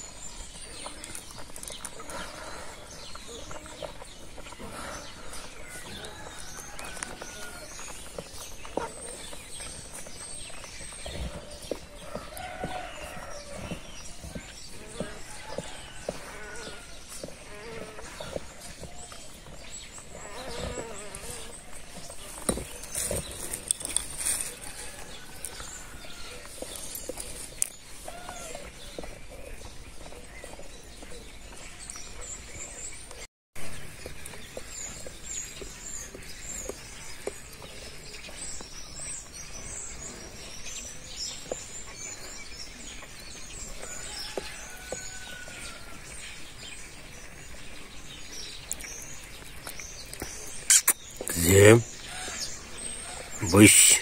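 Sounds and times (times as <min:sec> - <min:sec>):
small birds chirping faintly: 0:00.0 - 0:54.0.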